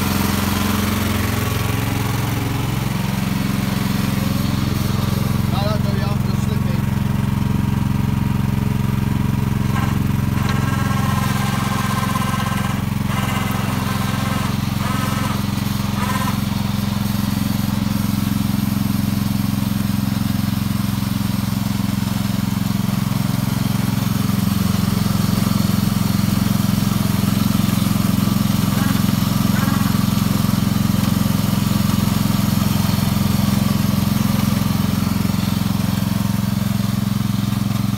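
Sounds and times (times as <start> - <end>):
garden tractor engine under load: 0.0 - 37.9.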